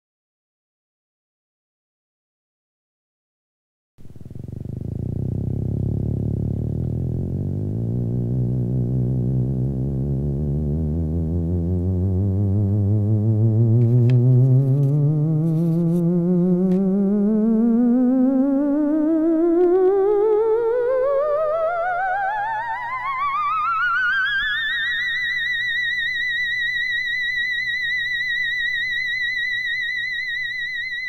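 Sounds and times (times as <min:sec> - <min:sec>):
electronic tone with vibrato: 0:04.1 - 0:31.0.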